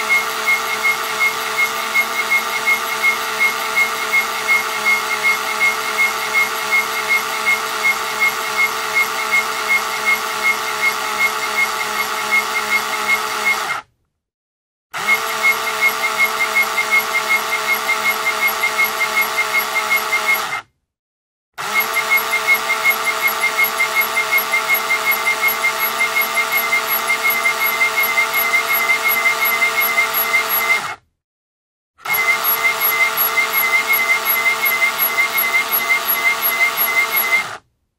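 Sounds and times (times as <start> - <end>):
screw squeaking as it turns: 0.1 - 13.8, 15.4 - 20.6, 21.8 - 31.0, 32.1 - 37.6.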